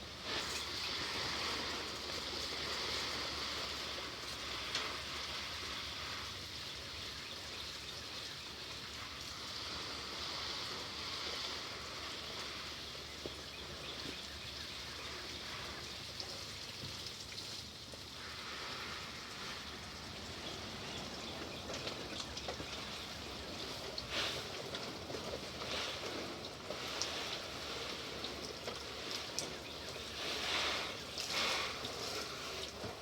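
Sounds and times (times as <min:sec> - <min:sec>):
falling water hissing: 0:00.0 - 0:33.0.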